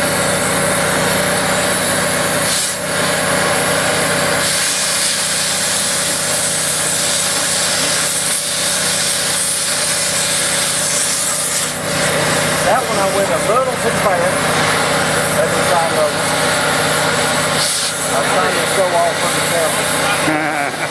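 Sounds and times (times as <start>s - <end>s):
cutting torch hissing: 0.0s - 20.9s.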